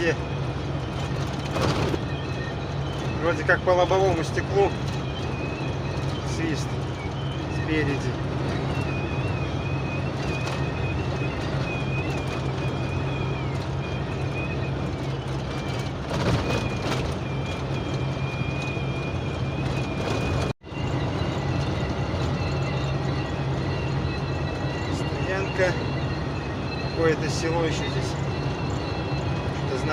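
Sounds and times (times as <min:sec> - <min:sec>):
engine and road noise: 0:00.0 - 0:29.9
wind whistle in vehicle cab: 0:00.0 - 0:29.9.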